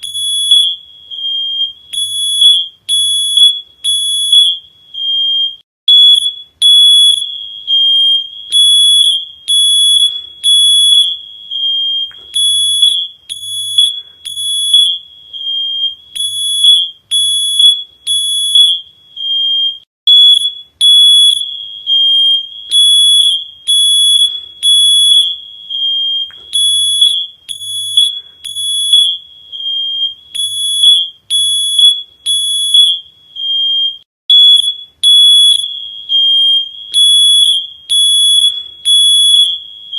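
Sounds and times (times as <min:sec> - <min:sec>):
electronic alarm beeping: 0:00.0 - 0:39.9.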